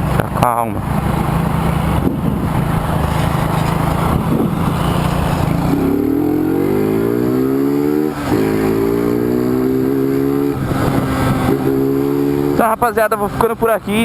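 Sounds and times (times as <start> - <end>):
motorcycle engine accelerating: 0.0 - 13.7.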